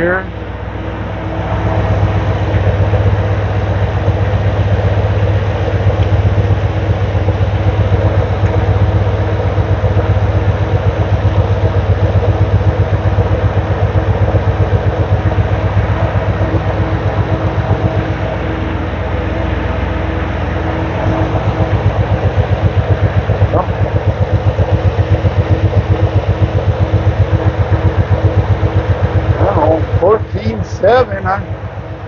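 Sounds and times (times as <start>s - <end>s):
pickup engine idling: 0.0s - 32.0s.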